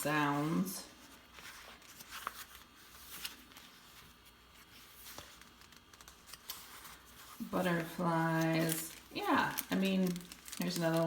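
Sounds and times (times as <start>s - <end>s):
paper pages rustling: 0.1s - 11.0s.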